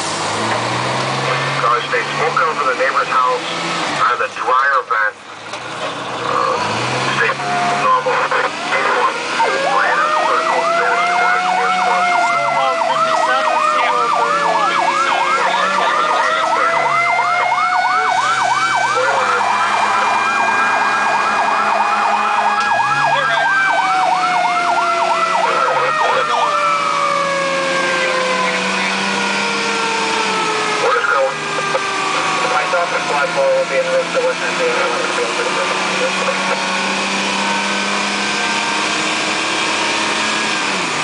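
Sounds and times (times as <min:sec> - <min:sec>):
siren wailing tone: 0:06.2 - 0:39.2
fire truck siren yelp: 0:06.3 - 0:41.0.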